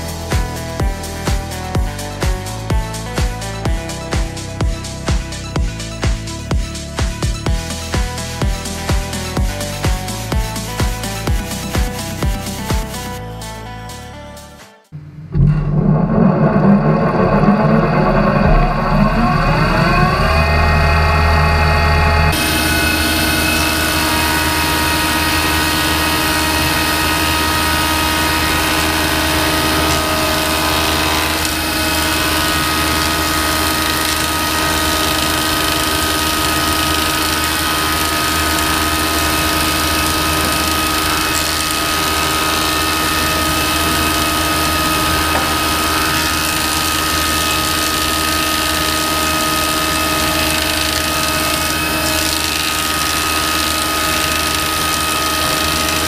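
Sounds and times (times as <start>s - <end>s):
woodworking machine whining: 0.0s - 13.2s, 15.0s - 56.0s.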